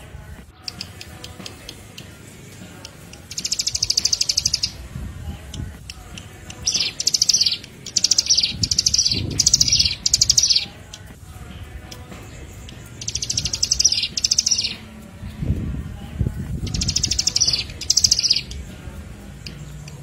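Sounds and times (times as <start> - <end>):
songbird trilling: 0.6 - 4.8, 5.5 - 11.1, 11.9 - 14.9, 16.6 - 20.0.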